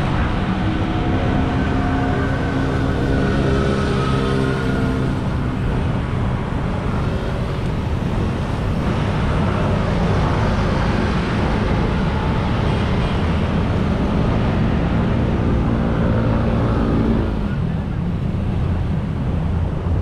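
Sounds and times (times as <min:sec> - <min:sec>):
passing engine hum: 0:00.0 - 0:20.0
road traffic passing: 0:00.0 - 0:20.0.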